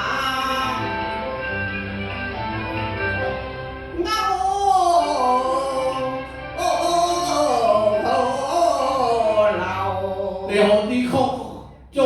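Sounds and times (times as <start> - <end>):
opera instrumental accompaniment: 0.0 - 11.9.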